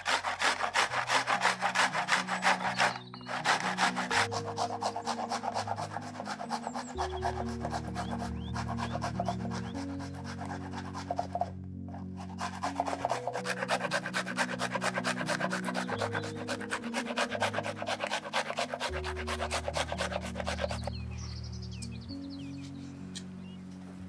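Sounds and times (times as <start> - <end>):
garlic rasping on metal grater: 0.0 - 11.5, 12.2 - 20.9
soft background music: 0.0 - 24.0.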